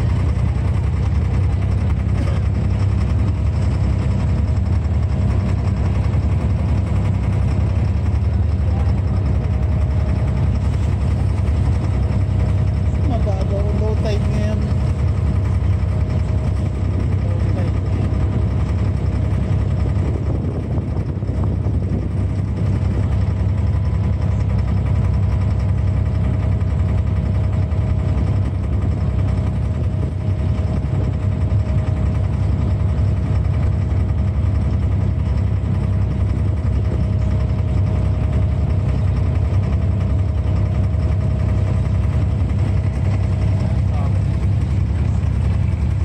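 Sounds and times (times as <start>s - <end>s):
boat diesel engine droning: 0.0s - 46.0s.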